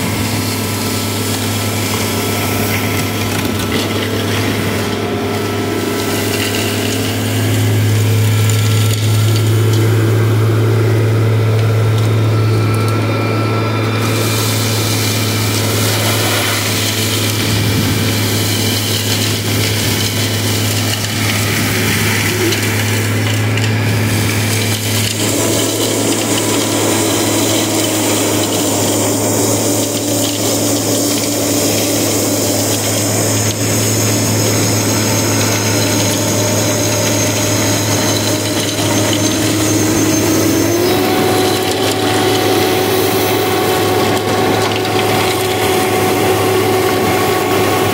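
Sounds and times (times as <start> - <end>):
truck engine and blower hum: 0.0 - 47.9.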